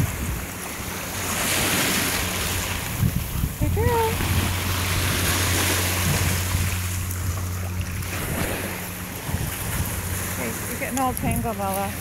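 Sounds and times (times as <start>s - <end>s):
waves breaking on pebbles: 0.0s - 12.0s
wind buffeting microphone: 0.0s - 12.0s.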